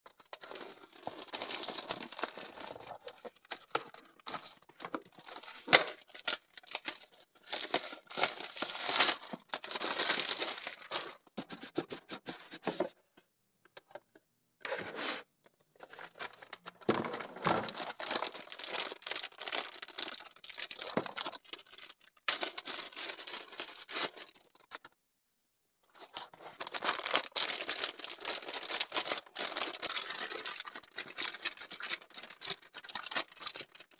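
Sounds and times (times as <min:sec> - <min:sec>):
plastic packaging crinkling: 0:00.1 - 0:11.3, 0:15.8 - 0:24.9, 0:26.0 - 0:33.9.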